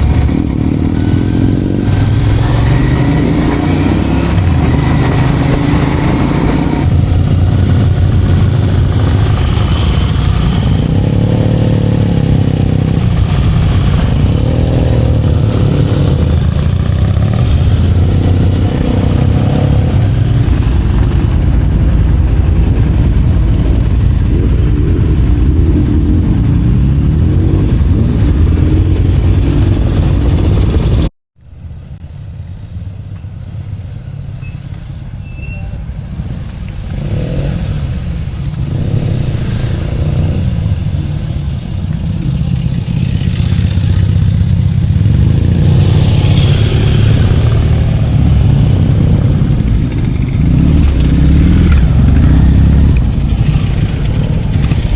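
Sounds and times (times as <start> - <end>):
motorcycle engine revving: 0.0 - 31.1, 36.8 - 54.9.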